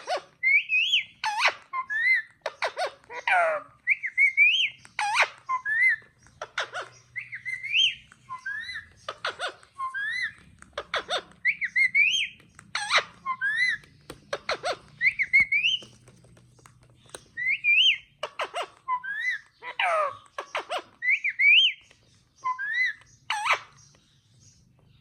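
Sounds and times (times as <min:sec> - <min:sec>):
parrot squawks: 0:00.0 - 0:15.8, 0:17.4 - 0:21.8, 0:22.4 - 0:23.9
parrot chattering and whistling: 0:00.0 - 0:15.9, 0:17.1 - 0:24.0.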